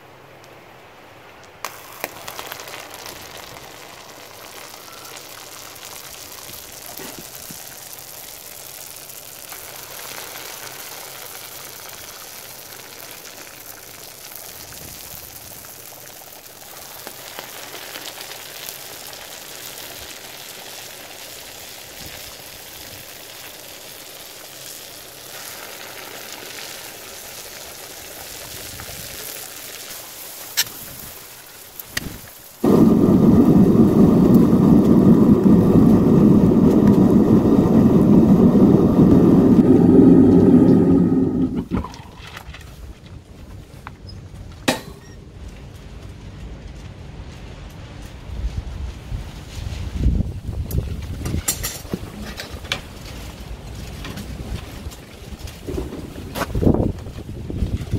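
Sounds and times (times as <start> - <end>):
molten metal hissing and crackling: 1.5 - 43.8, 45.7 - 57.9.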